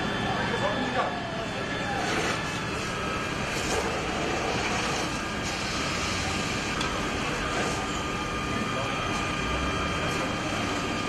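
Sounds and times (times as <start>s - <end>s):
fire engine pumps roaring: 0.0s - 11.0s.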